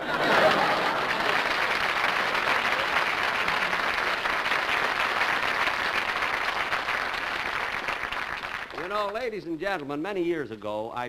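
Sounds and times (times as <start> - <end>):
studio audience applauding: 0.0 - 9.5.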